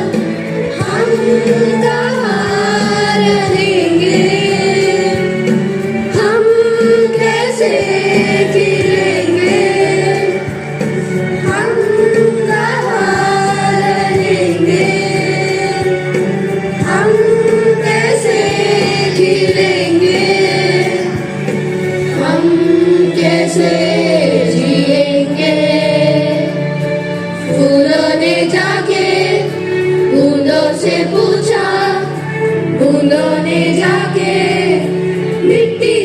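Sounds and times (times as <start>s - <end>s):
children's choir singing: 0.0s - 36.0s
low held accompaniment: 0.0s - 36.0s.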